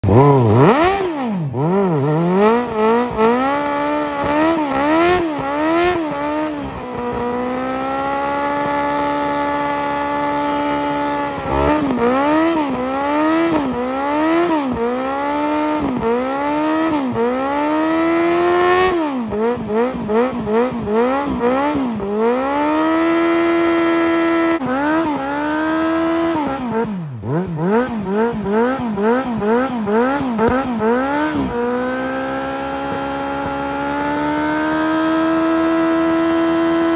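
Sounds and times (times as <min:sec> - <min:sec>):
motorcycle engine revving hard: 0:00.0 - 0:36.9.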